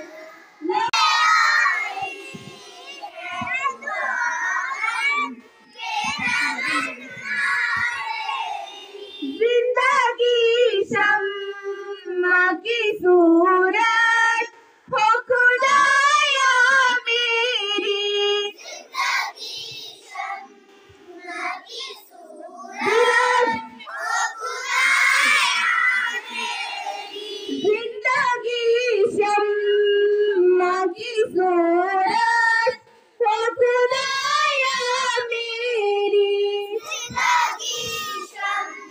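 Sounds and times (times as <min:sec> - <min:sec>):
children singing in chorus: 0:00.0 - 0:09.8, 0:15.4 - 0:30.4, 0:31.9 - 0:38.9.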